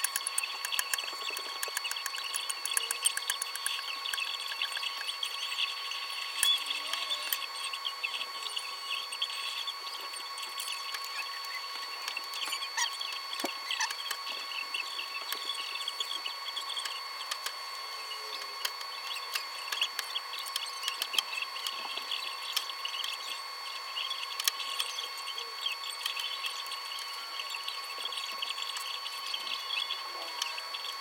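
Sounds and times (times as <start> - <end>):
high-pitched electrical whine: 0.0 - 31.0.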